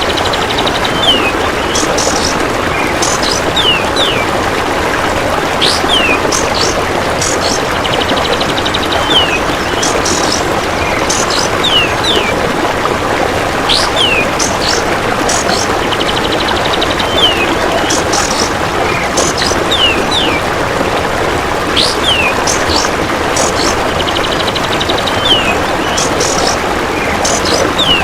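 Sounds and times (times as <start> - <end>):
sharp bird calls: 0.0 - 4.3, 5.6 - 12.4, 13.6 - 20.5, 21.7 - 28.0
running water trickle: 0.0 - 28.0.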